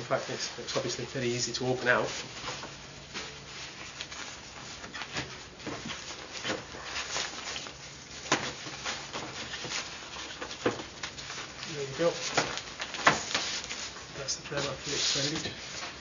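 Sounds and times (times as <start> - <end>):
prayer mat rustling and crinkling: 0.0 - 16.0.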